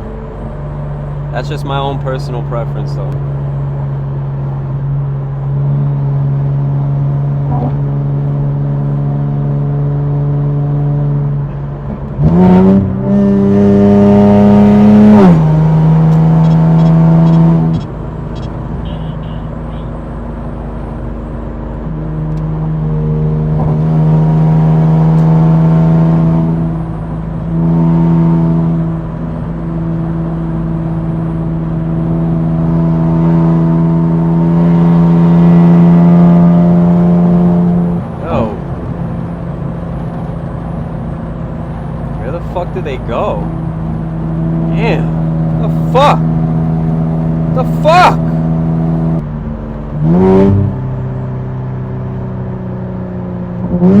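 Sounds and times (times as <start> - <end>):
car engine revving under acceleration: 0.0 - 18.8, 21.8 - 54.0.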